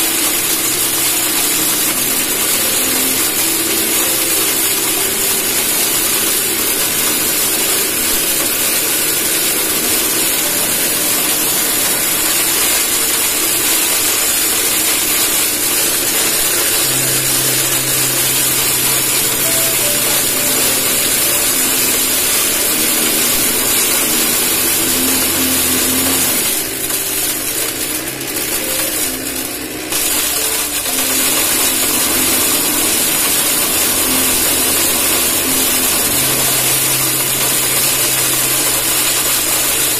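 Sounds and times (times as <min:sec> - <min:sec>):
electric motor grinding corn: 0:00.0 - 0:39.9.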